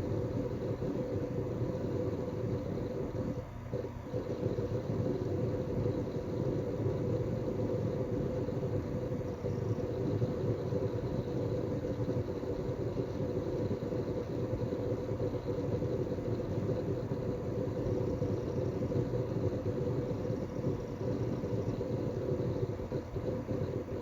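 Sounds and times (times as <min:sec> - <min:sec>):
fan and hard drives humming: 0:00.0 - 0:24.0.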